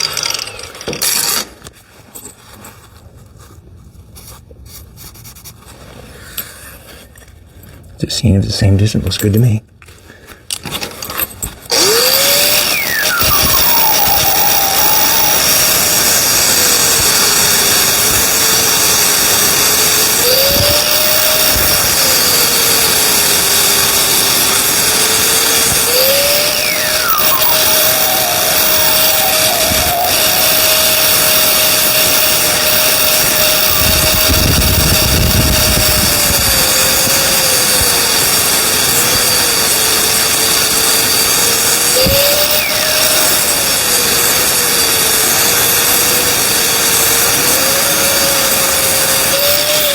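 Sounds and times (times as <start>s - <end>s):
angle grinder cutting steel: 0.0s - 1.7s, 11.6s - 49.9s.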